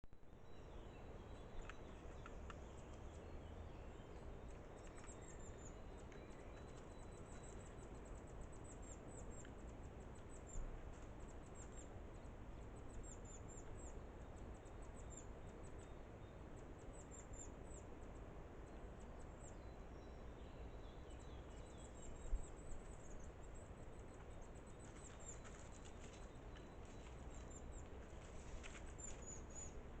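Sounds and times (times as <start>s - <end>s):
steady low hiss: 0.1s - 30.0s.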